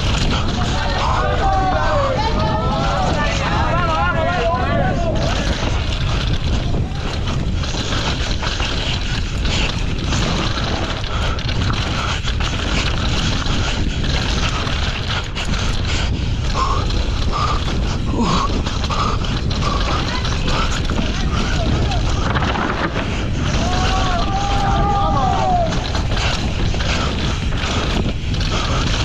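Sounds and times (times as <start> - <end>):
bike rattling and knocking: 0.0 - 29.0
tyres on loose dirt: 0.0 - 29.0
wind rush on microphone: 0.0 - 29.0.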